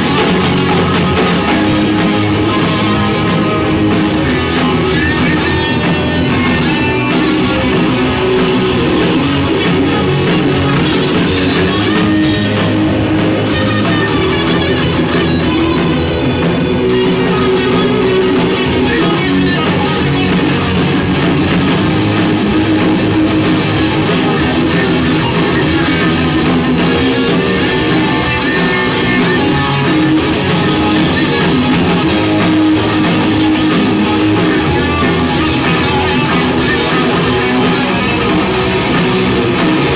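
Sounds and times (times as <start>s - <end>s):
drum kit: 0.0s - 39.9s
electric guitar: 0.0s - 39.9s
rock band playing live: 0.0s - 39.9s.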